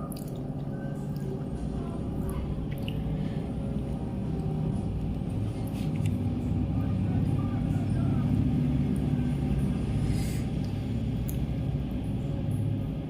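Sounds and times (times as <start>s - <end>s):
road vehicle rumble: 0.0s - 13.0s.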